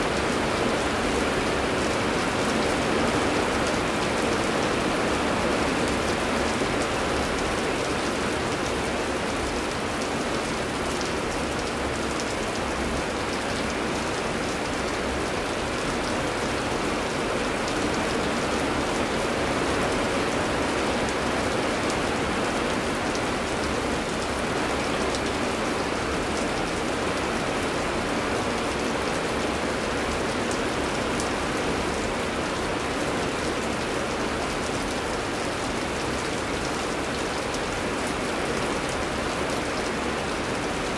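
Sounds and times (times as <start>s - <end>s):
heavy rain falling: 0.0s - 40.9s
raindrops pattering: 0.1s - 40.9s.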